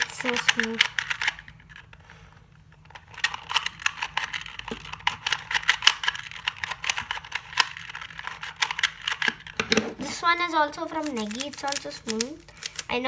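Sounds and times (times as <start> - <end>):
puzzle cube plastic clicks: 0.0 - 2.0, 2.7 - 10.2, 10.9 - 13.0.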